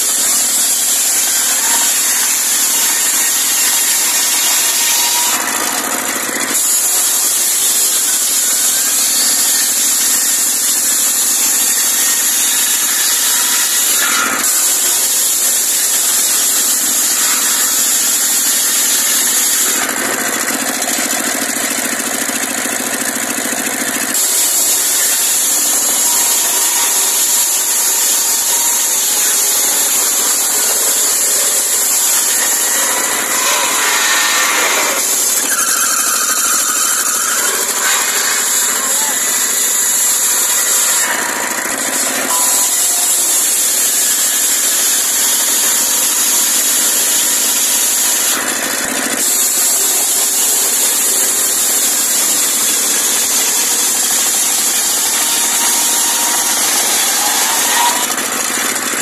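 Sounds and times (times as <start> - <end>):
circular saw cutting logs: 0.0 - 59.0
engine running steadily: 0.0 - 59.0.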